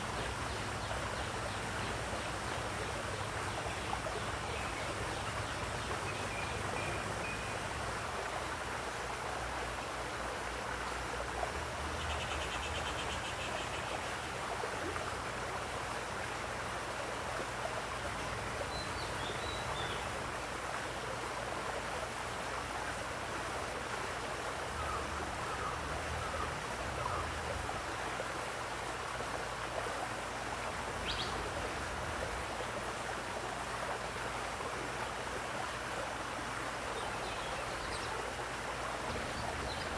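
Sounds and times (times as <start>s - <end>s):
running water splashing: 1.3s - 39.9s.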